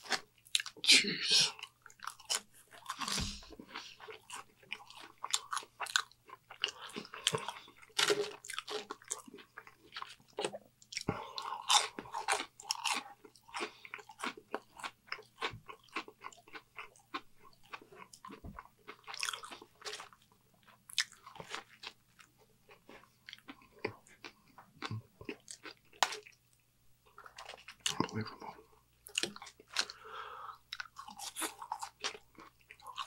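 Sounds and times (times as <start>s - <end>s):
chewing and crunching food: 0.0s - 0.9s, 1.5s - 33.0s.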